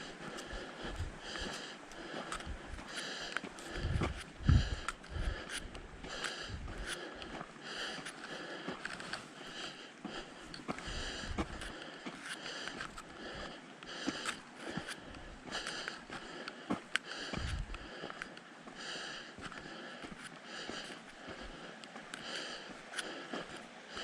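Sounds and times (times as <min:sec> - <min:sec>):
footsteps on a trail: 0:00.0 - 0:24.0
person breathing: 0:00.0 - 0:24.0.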